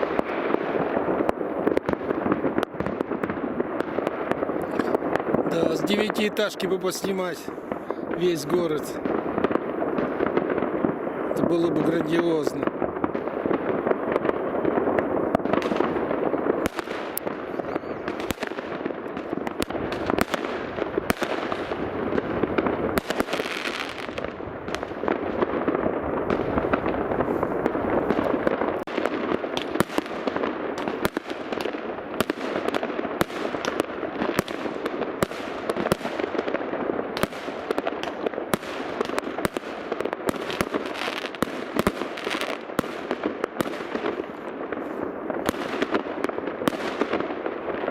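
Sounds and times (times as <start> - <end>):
firework bangs: 0.0 - 47.9
fireworks crackling: 0.0 - 47.9.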